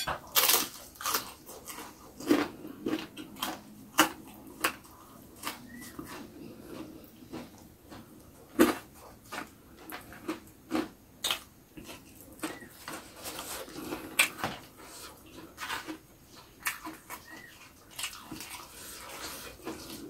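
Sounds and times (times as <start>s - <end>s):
chewing: 0.0s - 20.0s.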